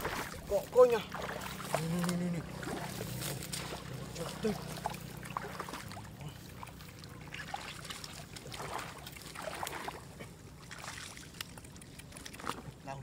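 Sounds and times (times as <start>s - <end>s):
splashing in shallow water: 0.0s - 13.0s.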